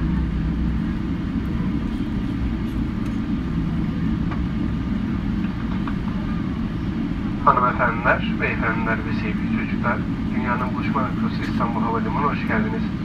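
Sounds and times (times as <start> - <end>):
aircraft cabin rumble on runway: 0.0 - 13.0.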